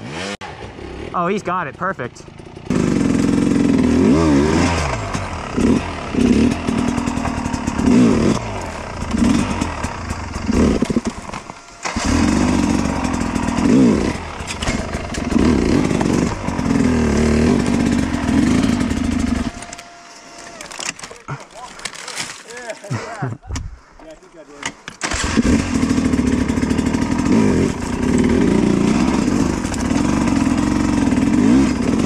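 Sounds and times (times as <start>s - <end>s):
dirt bike engine revving: 0.0s - 20.1s, 25.0s - 32.0s.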